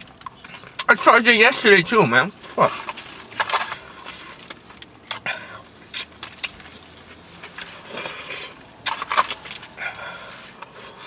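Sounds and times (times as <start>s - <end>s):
person chewing food: 0.0s - 0.9s, 2.4s - 11.0s.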